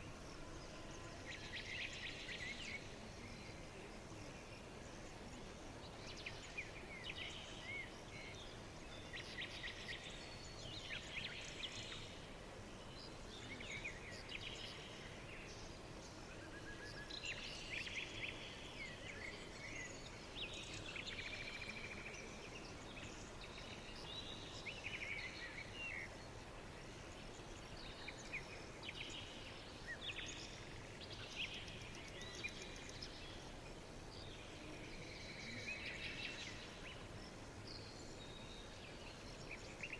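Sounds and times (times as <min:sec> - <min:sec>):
small birds chirping and singing: 0:00.0 - 0:39.9
steady background hiss: 0:00.0 - 0:39.9.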